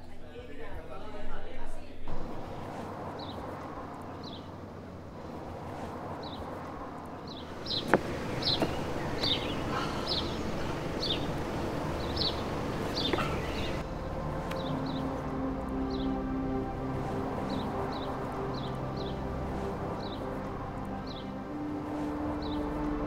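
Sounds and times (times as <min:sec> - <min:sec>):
outdoor background noise: 0:00.0 - 0:23.0
bird chirping: 0:02.1 - 0:23.0.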